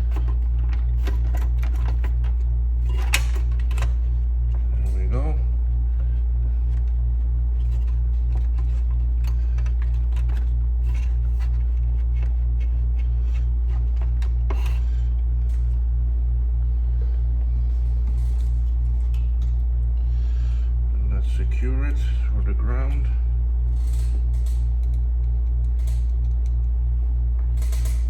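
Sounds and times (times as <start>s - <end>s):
parts clicking and rattling: 0.0s - 20.1s, 22.0s - 28.0s
low throbbing hum: 0.0s - 28.0s.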